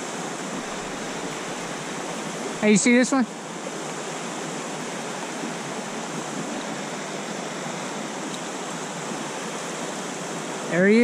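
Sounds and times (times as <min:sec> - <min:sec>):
stream rushing over stones: 0:00.0 - 0:11.0.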